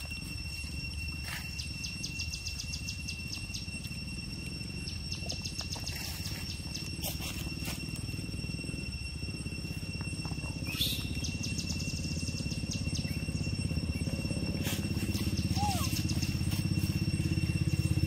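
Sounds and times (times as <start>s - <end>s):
insects droning: 0.0s - 18.0s
rapid ticking chirps: 0.0s - 18.0s.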